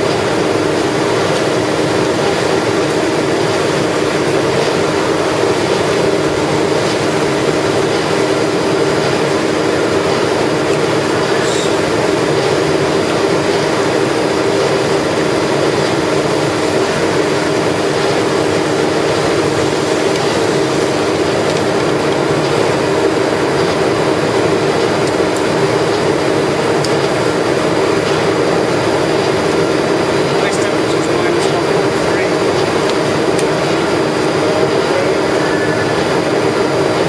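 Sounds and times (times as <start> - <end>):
pump machine hum: 0.0 - 37.0.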